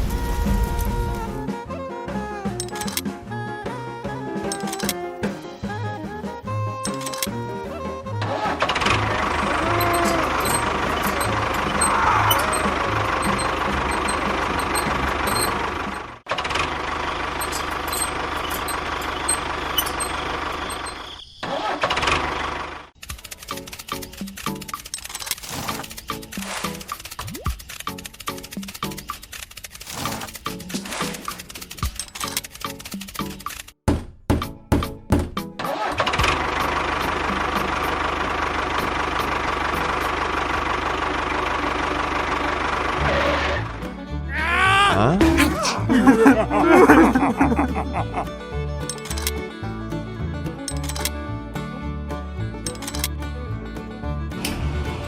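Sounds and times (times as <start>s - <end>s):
small engine running: 2.1s - 5.7s, 6.8s - 33.7s, 35.7s - 44.2s, 46.0s - 51.2s.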